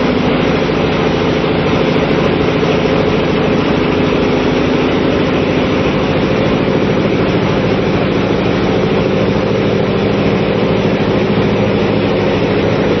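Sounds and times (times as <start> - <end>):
diesel machinery humming: 0.0 - 13.0.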